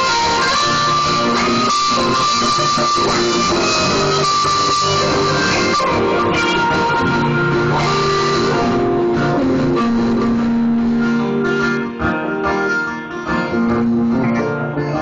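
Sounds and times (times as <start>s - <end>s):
electric guitar playing: 0.0s - 15.0s
strummed acoustic guitar: 0.0s - 15.0s.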